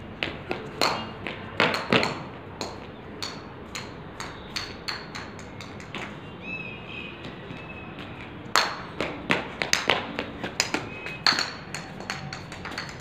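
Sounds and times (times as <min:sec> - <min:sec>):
sharp taps and knocks: 0:00.2 - 0:06.2, 0:08.0 - 0:13.0.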